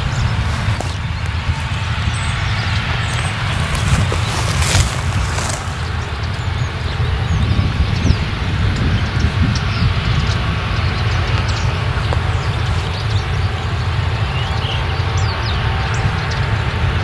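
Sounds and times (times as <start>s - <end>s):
combine harvester rumbling: 0.0s - 17.0s.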